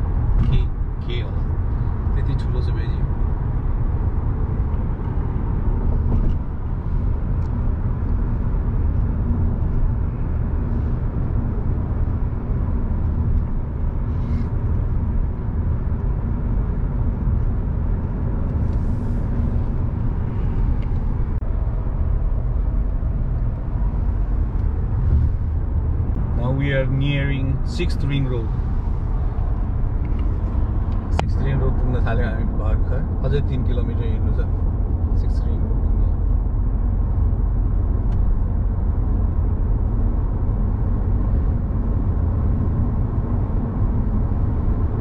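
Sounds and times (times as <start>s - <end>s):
car cabin road noise: 0.0s - 45.0s.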